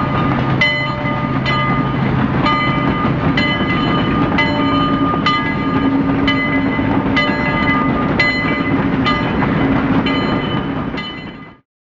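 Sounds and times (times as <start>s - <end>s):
ringing rail clacks: 0.0s - 11.6s
train running on rails: 0.0s - 11.6s.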